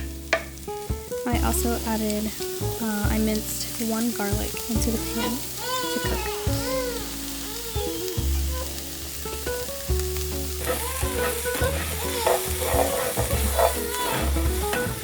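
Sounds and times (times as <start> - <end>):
background music with bass line: 0.0 - 15.0
vegetables sizzling in a frying pan: 0.0 - 15.0.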